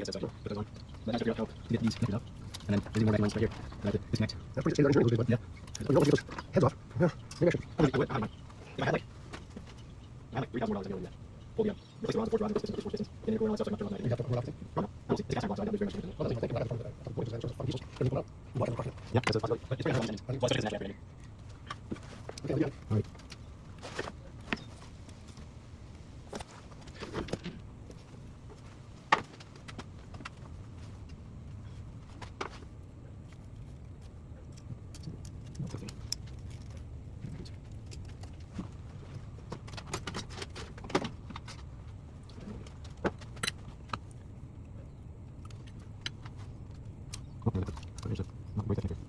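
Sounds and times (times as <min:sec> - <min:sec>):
low steady rumble: 0:00.0 - 0:49.0.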